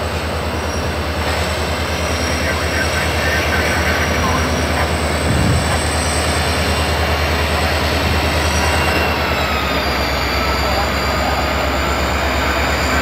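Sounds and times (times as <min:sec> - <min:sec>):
train wheels rumbling on rails: 0:00.0 - 0:13.0
faint high wheel squeal: 0:00.5 - 0:01.0, 0:01.7 - 0:03.0, 0:03.7 - 0:13.0.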